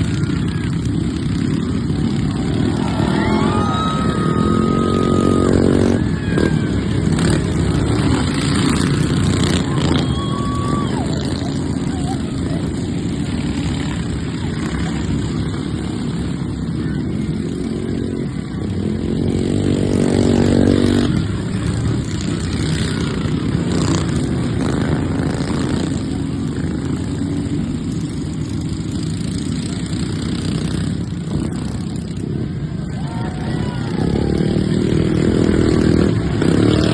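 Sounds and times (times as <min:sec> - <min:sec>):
lawnmower engines droning: 0:00.0 - 0:36.9.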